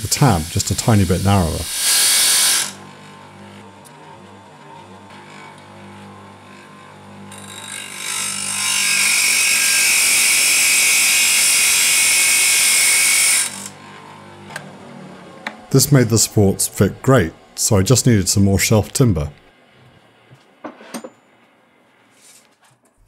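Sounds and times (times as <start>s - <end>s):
bench grinder motor hum: 0.0s - 18.8s.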